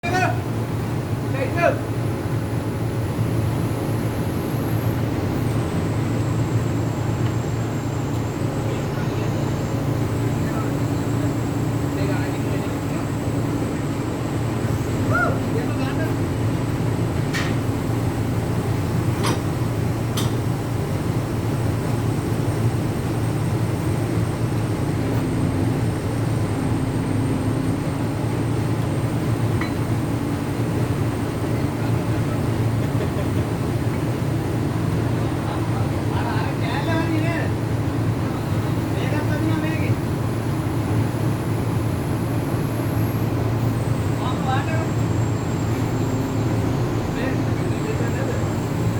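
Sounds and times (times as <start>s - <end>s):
low machinery rumble: 0.0s - 48.9s.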